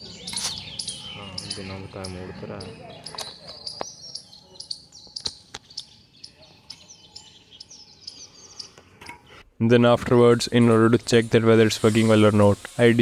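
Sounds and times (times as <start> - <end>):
birds chirping: 0.0 - 11.2.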